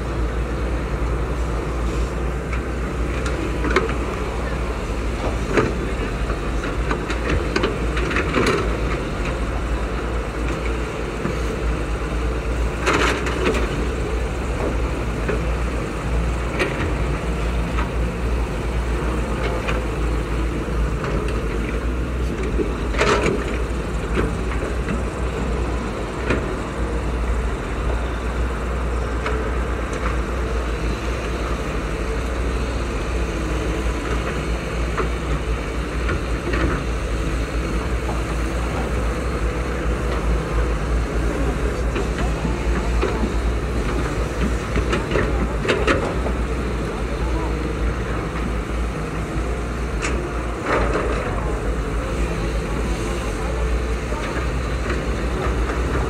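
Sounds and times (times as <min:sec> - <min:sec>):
excavator diesel engines rumbling: 0:00.0 - 0:56.0.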